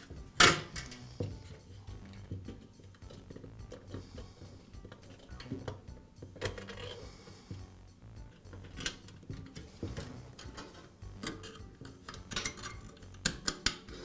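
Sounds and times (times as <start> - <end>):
wire coil clinking against metal: 0.0 - 7.3, 8.3 - 14.0.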